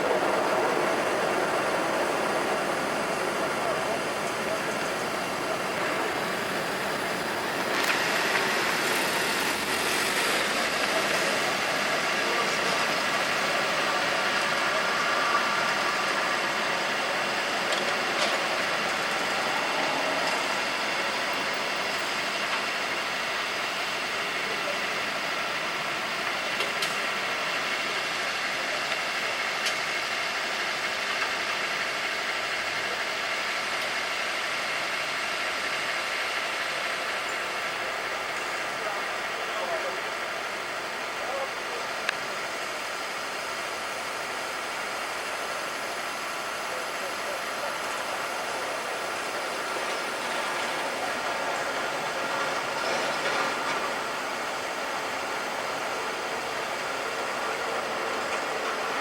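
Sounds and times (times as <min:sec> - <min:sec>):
vehicles passing: 0:00.0 - 0:24.9, 0:35.8 - 0:59.0
road noise: 0:00.0 - 0:59.0
vehicle engines idling: 0:00.0 - 0:59.0.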